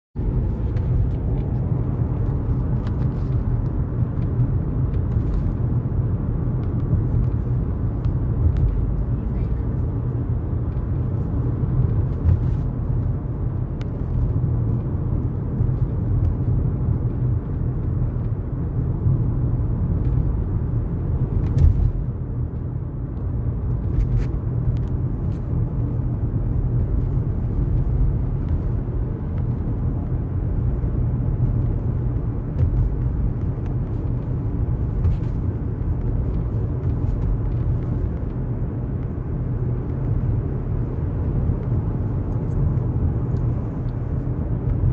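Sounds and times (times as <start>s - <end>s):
car rumbling on highway: 0.1s - 44.9s.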